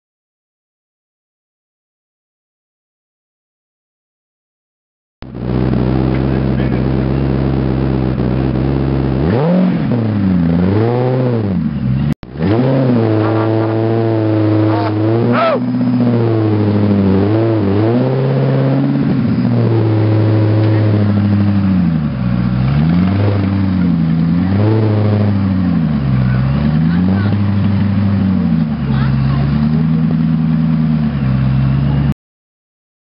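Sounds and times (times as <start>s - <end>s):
car engine revving: 5.2s - 32.1s.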